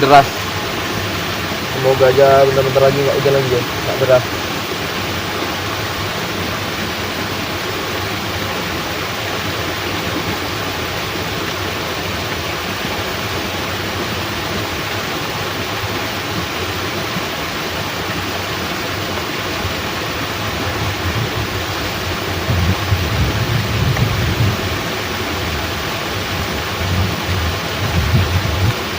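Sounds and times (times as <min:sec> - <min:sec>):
heavy rain falling: 0:00.0 - 0:28.9
water pouring through sluice gate: 0:00.0 - 0:28.9.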